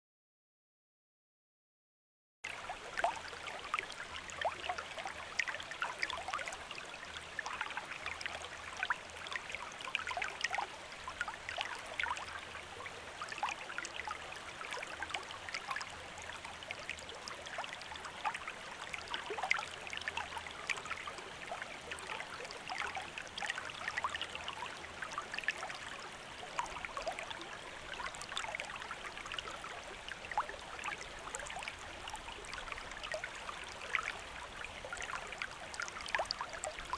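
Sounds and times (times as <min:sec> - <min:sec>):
stream water flowing over stones: 0:02.5 - 0:36.9.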